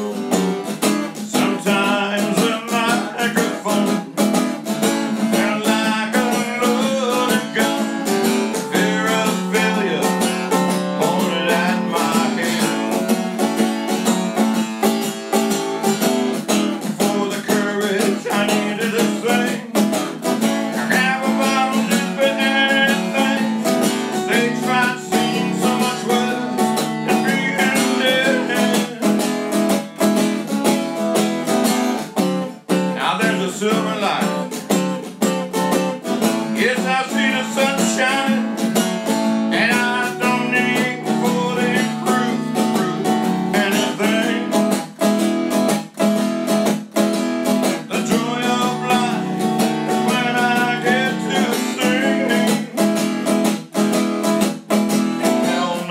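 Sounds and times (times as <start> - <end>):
acoustic guitar strumming: 0.0 - 55.9.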